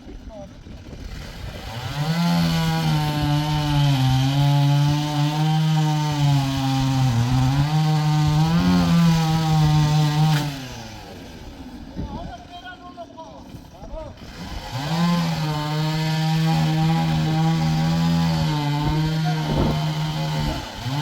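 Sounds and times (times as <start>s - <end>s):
chainsaw at high revs: 0.1s - 21.0s.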